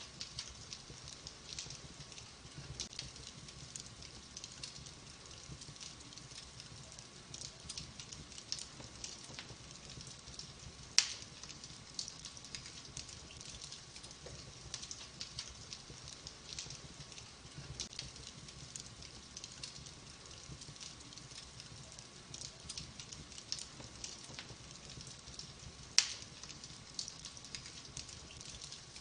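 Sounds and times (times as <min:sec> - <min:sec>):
logs crackling and popping: 0:00.0 - 0:29.0
soft hiss of fire: 0:00.0 - 0:29.0.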